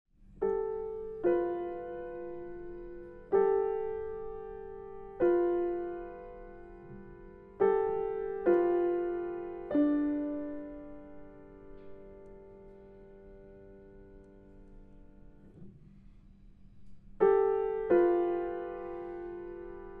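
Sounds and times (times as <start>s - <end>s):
slow piano chords: 0.2s - 20.0s.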